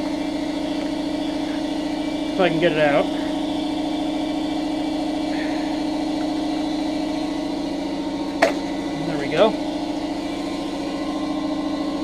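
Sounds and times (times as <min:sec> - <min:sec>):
air compressor motor humming: 0:00.0 - 0:12.0.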